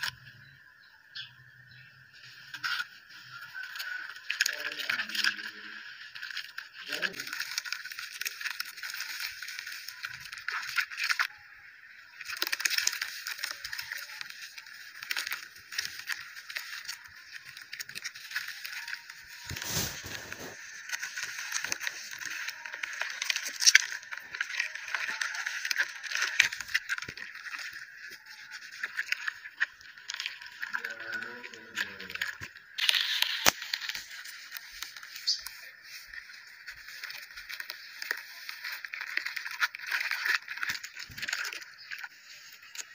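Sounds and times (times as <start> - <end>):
hands squeezing clay: 1.2 - 42.9
clay fizzing and crackling in water: 2.3 - 42.9.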